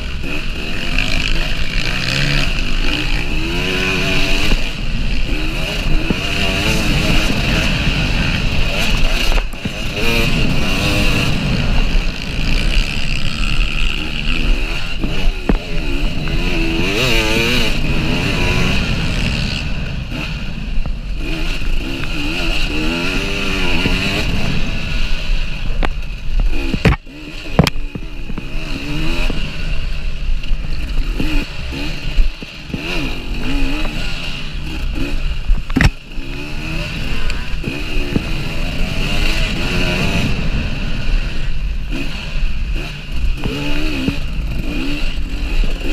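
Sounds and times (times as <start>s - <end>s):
motorcycle engine revving: 0.0s - 45.9s
motorcycle rattling over bumps: 0.0s - 45.9s.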